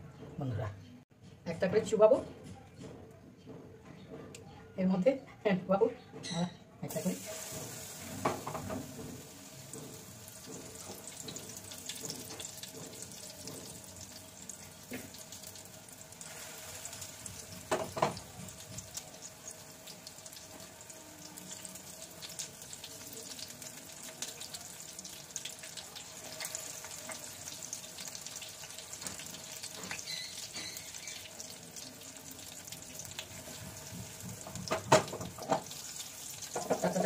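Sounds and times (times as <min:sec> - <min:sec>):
fish frying in oil: 0:06.9 - 0:37.0.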